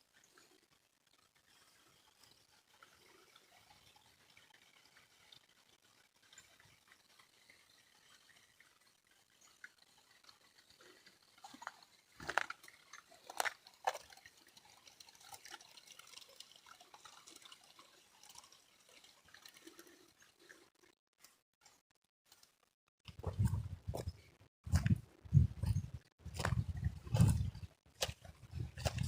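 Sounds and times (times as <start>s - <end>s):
water dripping: 0.1s - 22.5s, 23.1s - 29.0s.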